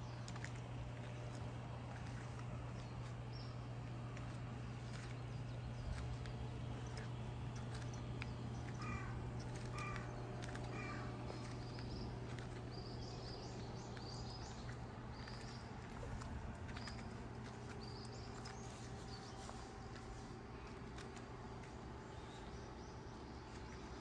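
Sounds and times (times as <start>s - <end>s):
birds chirping: 0.0s - 24.0s
low hum: 0.0s - 24.0s.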